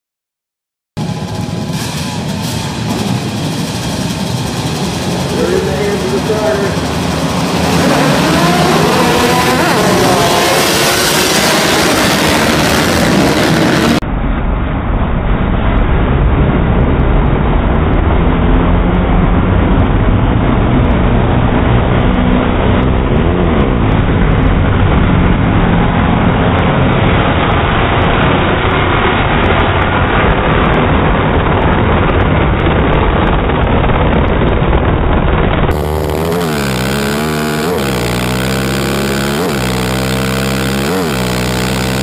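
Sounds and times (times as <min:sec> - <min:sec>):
deep rumble: 0:01.0 - 0:42.0
racing quad bike engines droning: 0:01.0 - 0:42.0.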